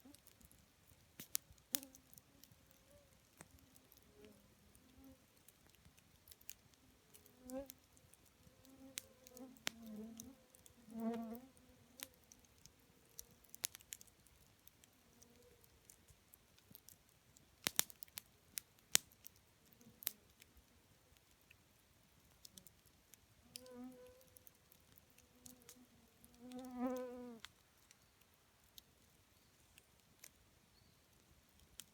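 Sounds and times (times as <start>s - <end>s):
campfire crackling and popping: 0.0s - 30.5s, 31.1s - 31.9s.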